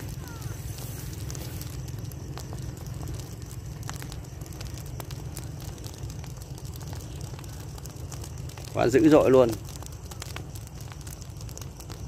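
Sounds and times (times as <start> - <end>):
low fire rumble: 0.0 - 12.0
straw fire crackling: 0.0 - 12.0.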